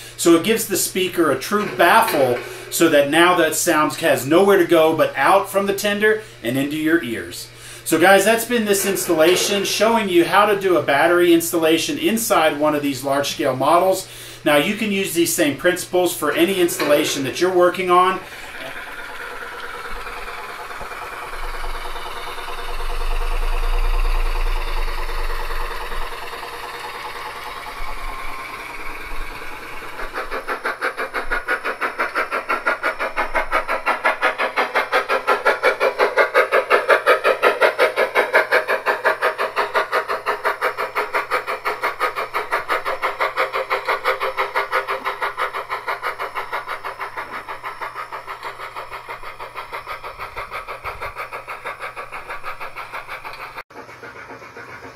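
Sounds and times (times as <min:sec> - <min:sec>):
steam locomotive chuffing: 0:00.0 - 0:54.9
steam locomotive hissing: 0:00.0 - 0:54.9.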